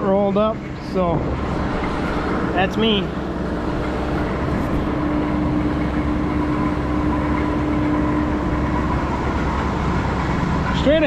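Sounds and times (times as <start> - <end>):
steady humming tone: 0.0 - 11.0
farm vehicle engine running: 1.3 - 10.8.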